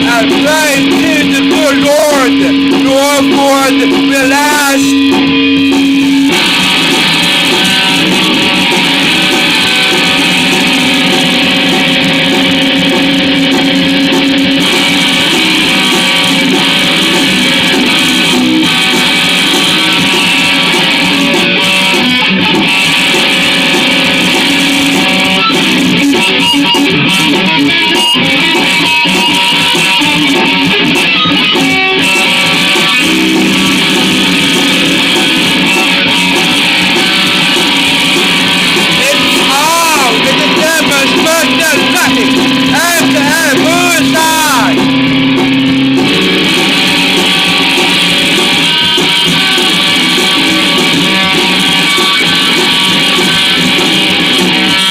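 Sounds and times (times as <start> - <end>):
instrumental guitar music: 0.0 - 54.9.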